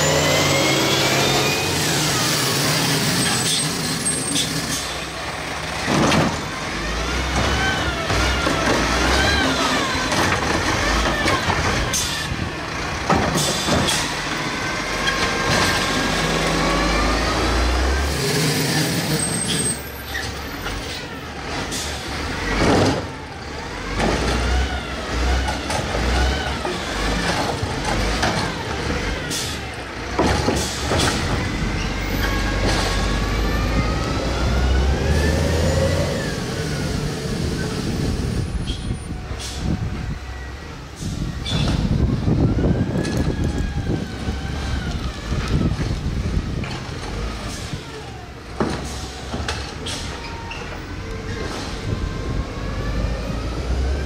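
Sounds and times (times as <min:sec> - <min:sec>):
truck engine revving: 0:00.0 - 0:40.2, 0:40.8 - 0:54.0.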